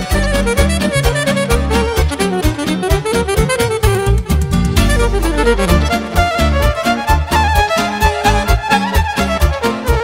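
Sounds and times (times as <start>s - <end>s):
accordion: 0.0s - 10.0s
driving beat with heavy bass: 0.0s - 10.0s
electric violin melody: 0.0s - 10.0s
saxophone: 0.0s - 10.0s.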